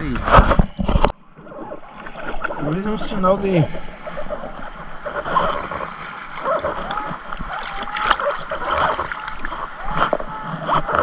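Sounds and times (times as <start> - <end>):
water sloshing and splashing: 0.1 - 11.0.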